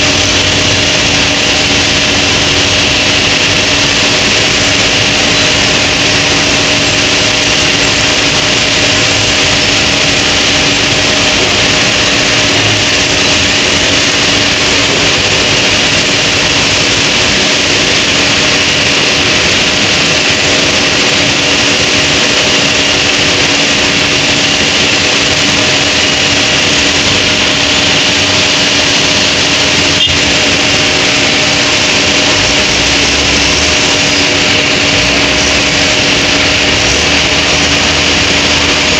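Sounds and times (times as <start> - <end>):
heavy machinery engines droning: 0.0 - 38.9.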